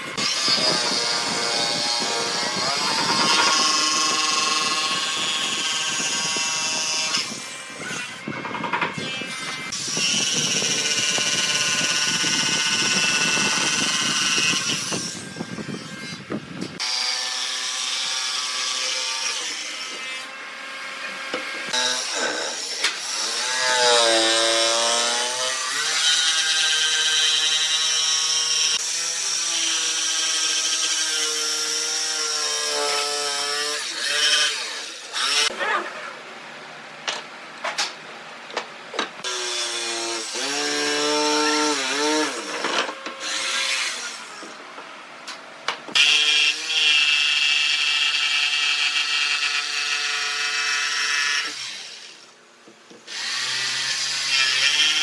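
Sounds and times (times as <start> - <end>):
jigsaw cutting wood: 0.0 - 15.7, 16.8 - 35.8, 39.2 - 44.5, 45.9 - 52.2, 53.1 - 55.0.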